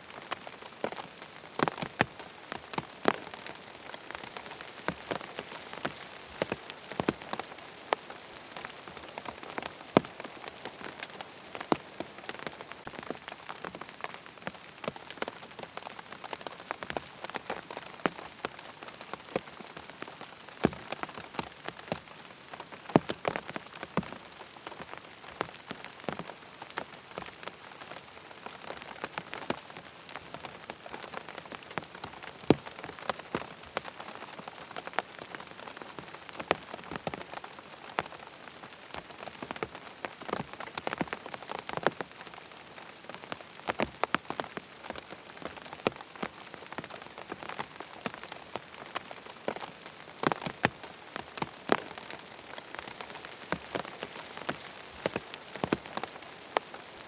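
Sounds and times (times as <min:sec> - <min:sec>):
rain hiss: 0:00.0 - 0:57.0
raindrops ticking: 0:00.1 - 0:57.0.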